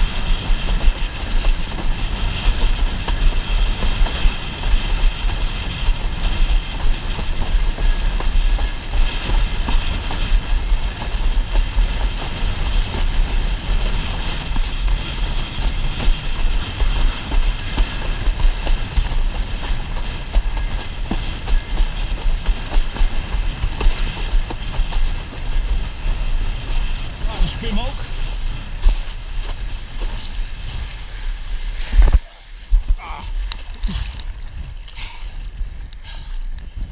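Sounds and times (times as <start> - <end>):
board slapping on waves: 0.0 - 35.0
water rushing under board: 0.0 - 36.0
wind buffeting microphone: 0.0 - 36.9.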